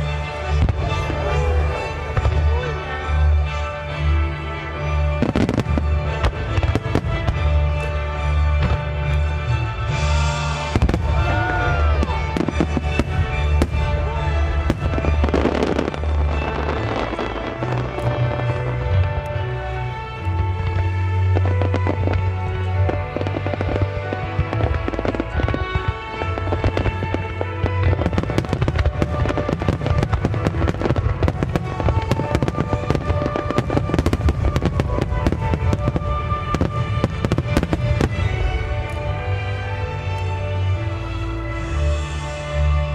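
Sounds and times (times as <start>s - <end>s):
fireworks bursting with bangs: 0.0s - 4.1s, 4.7s - 42.9s
fireworks crackling: 0.0s - 42.9s
music: 0.0s - 42.9s.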